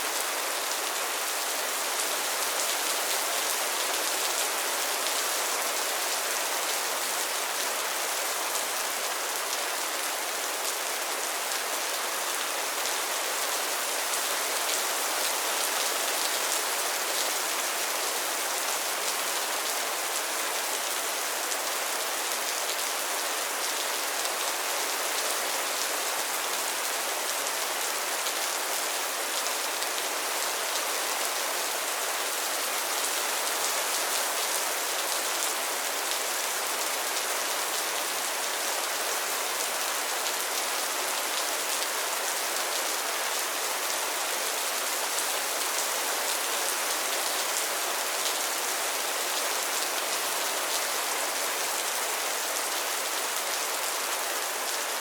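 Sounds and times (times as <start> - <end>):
rain falling on a pond: 0.0 - 55.0.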